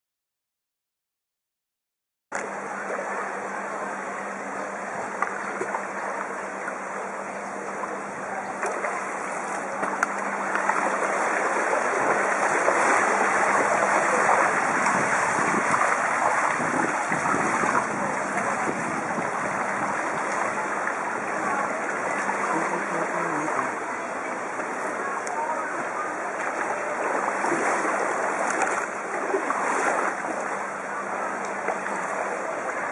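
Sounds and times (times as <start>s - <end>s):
water rushing around bicycle wheels: 5.0s - 32.9s.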